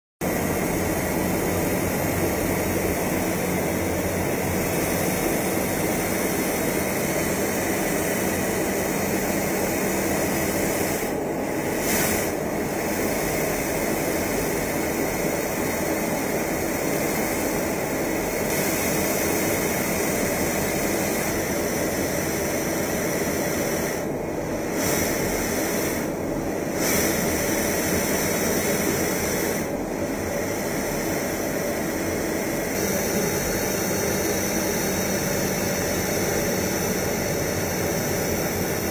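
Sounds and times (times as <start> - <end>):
jet aircraft cabin noise: 0.2 - 38.9.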